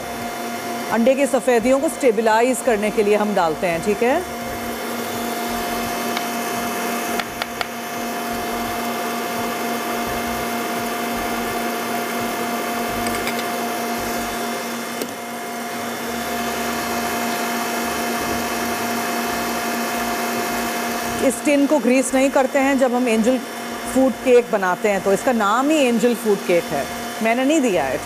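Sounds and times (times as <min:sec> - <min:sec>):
electric stand mixer whisking: 0:00.0 - 0:28.0.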